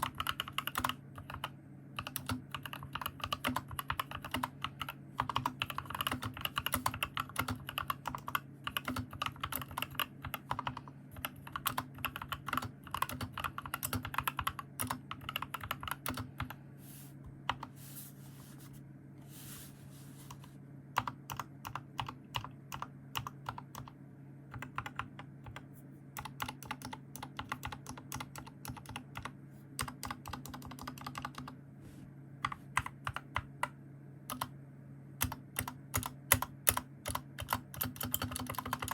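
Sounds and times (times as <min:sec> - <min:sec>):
mechanical keyboard typing: 0:00.0 - 0:16.6, 0:21.0 - 0:31.6, 0:32.4 - 0:34.5, 0:35.2 - 0:38.9
steady low hum: 0:00.0 - 0:38.9.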